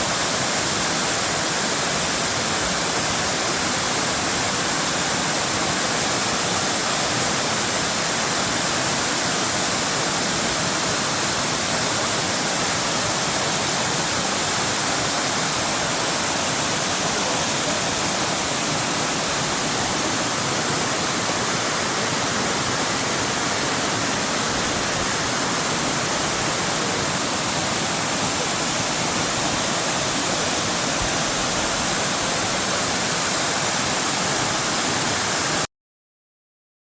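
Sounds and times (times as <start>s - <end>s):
waterfall rushing: 0.0s - 35.7s.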